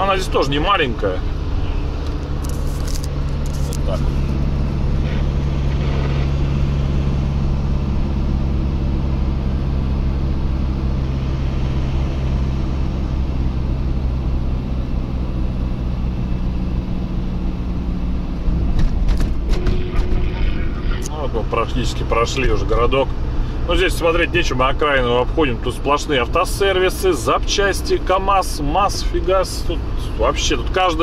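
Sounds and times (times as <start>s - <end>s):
road noise: 0.0s - 31.0s
truck engine cruising: 0.0s - 31.0s.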